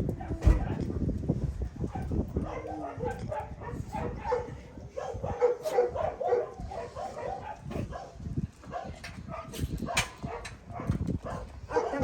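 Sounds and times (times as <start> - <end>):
dogs yipping: 1.8 - 12.0.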